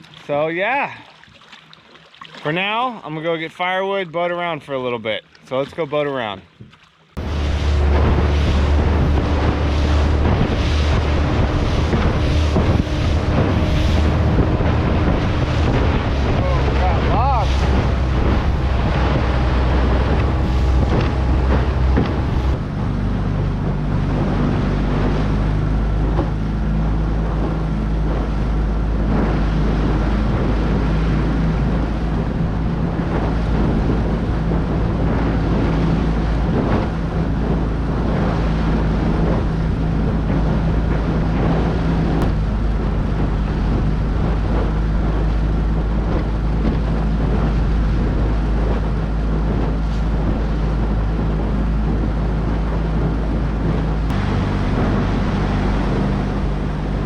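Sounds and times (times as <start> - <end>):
motorboat engine running: 0.0 - 57.0
water rushing past hull: 0.0 - 57.0
wind on microphone: 6.6 - 57.0.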